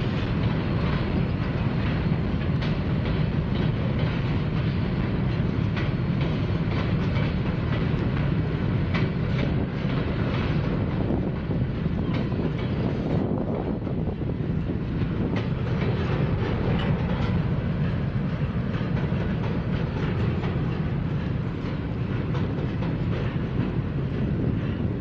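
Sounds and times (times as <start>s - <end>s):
freight train rumbling: 0.0s - 25.0s
wheels clicking on rails: 0.0s - 25.0s.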